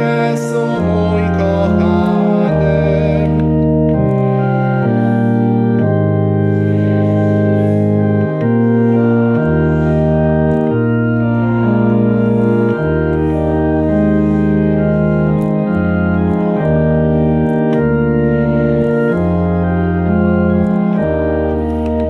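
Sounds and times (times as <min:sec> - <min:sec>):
organ playing sustained chords: 0:00.0 - 0:22.0.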